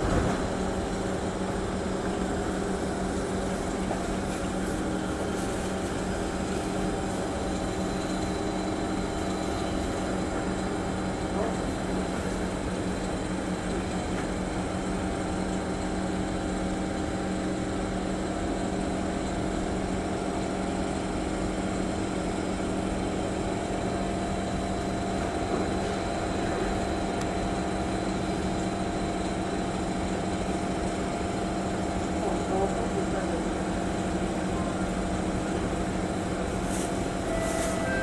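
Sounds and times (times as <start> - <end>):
train car mechanical hum: 0.0 - 38.0.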